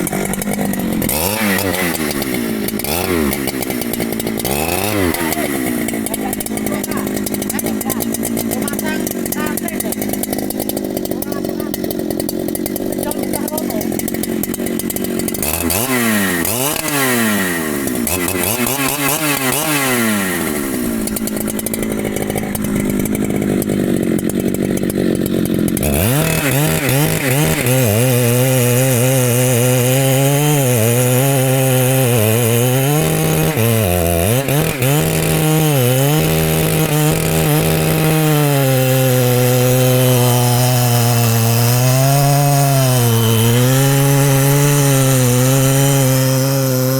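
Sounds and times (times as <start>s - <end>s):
chainsaw revving and cutting wood: 0.0s - 46.9s.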